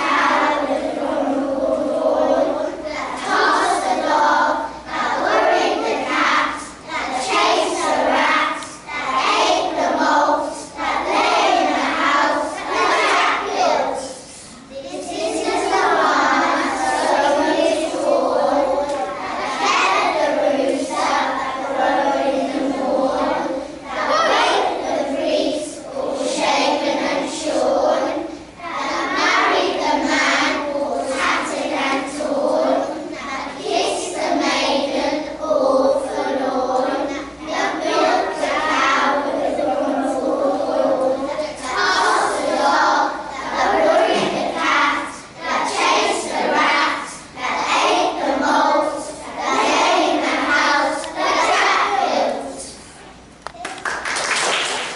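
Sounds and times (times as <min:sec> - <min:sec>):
children's voices in unison: 0:00.0 - 0:54.9.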